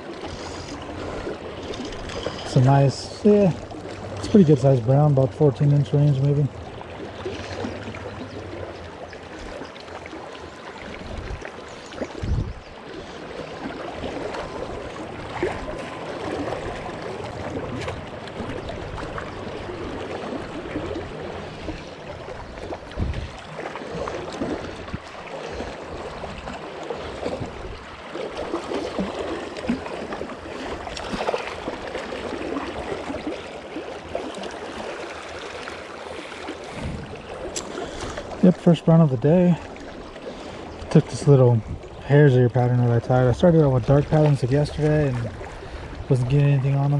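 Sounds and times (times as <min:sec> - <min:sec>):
river water rushing: 0:00.0 - 0:46.9
water splashes: 0:00.0 - 0:46.9.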